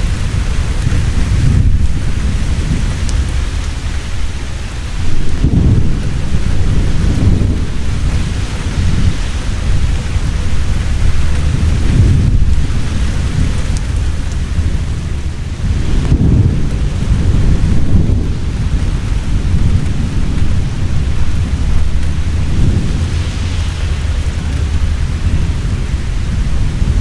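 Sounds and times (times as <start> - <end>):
heavy rain: 0.0 - 27.0
rolling thunder: 0.0 - 27.0.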